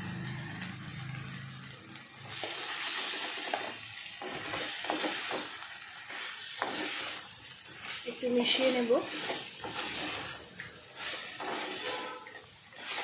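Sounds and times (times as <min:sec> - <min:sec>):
crab sizzling in hot oil: 0:00.0 - 0:13.0.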